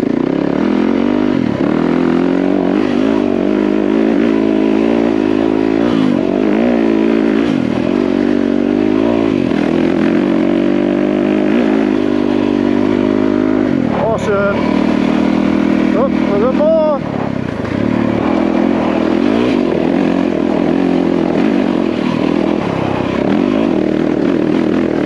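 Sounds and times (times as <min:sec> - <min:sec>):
dirt bike engine labouring: 0:00.0 - 0:25.0
wind: 0:00.0 - 0:25.0.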